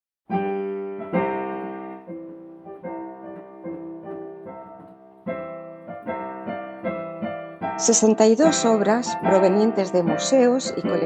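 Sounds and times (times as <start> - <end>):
solo piano music: 0.3 - 11.0.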